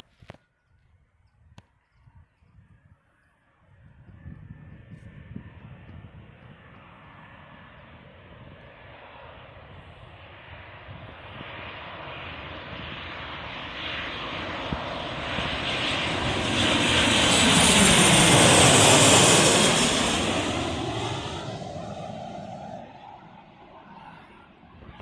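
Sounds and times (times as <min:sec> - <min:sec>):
jet engines roaring overhead: 0:04.3 - 0:25.0.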